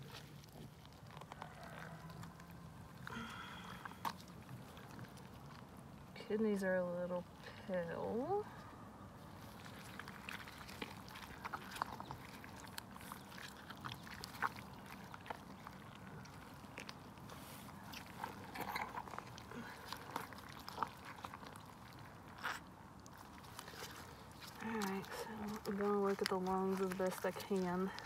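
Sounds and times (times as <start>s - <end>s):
wet squelches: 0.0s - 28.0s.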